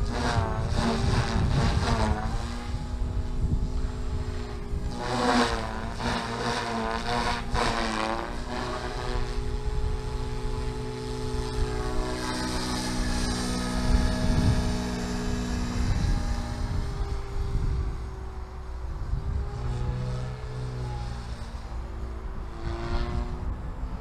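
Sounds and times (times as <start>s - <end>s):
rc helicopter rotor whine: 0.0s - 24.0s.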